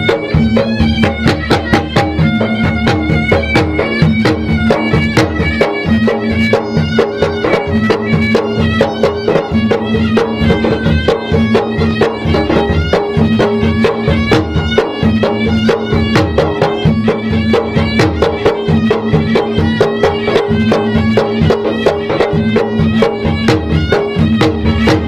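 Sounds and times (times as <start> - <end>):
reedy wind instrument melody: 0.0 - 25.0
two-headed drums beaten fast: 0.0 - 25.0.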